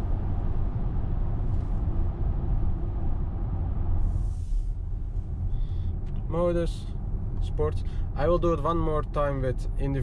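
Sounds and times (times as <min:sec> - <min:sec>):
car road and tyre noise: 0:00.0 - 0:10.0.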